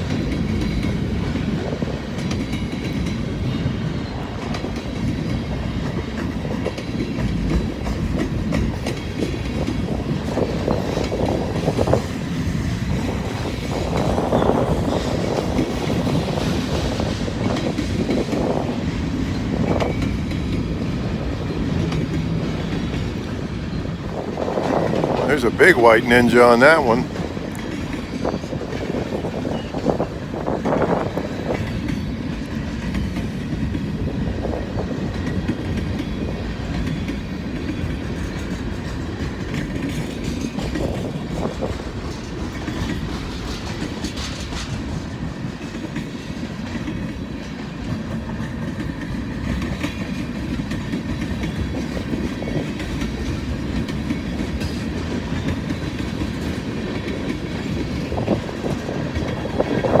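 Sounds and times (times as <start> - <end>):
freight train wheels rumbling: 0.0 - 60.0.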